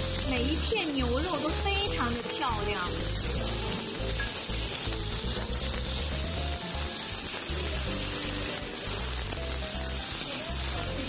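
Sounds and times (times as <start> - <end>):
background music: 0.0 - 11.0
beef sizzling on grill plate: 0.0 - 11.0.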